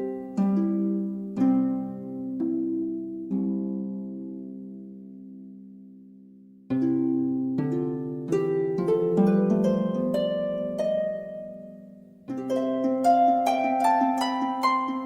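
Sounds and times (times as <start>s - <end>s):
harp playing plucked notes: 0.0s - 6.1s, 6.7s - 15.0s.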